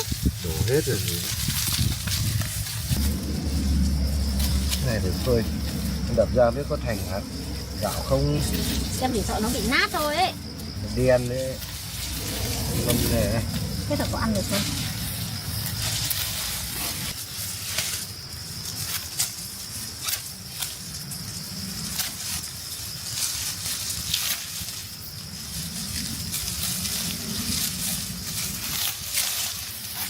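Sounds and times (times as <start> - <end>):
dry rice stalks rustling: 0.0 - 30.0
steady high-pitched hiss: 0.0 - 30.0.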